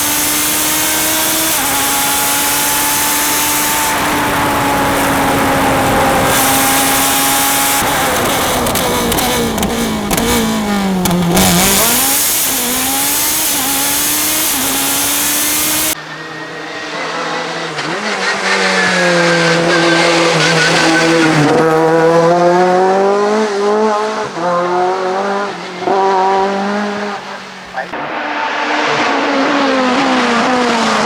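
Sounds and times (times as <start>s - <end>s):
racing car engines at full throttle: 0.0s - 31.0s.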